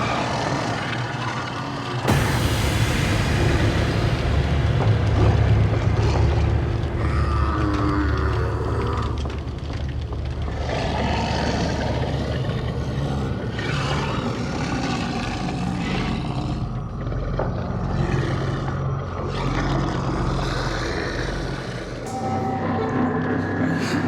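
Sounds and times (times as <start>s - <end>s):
low rumbling drone: 0.0s - 19.2s, 20.0s - 24.0s
rough growling swells: 0.0s - 24.0s.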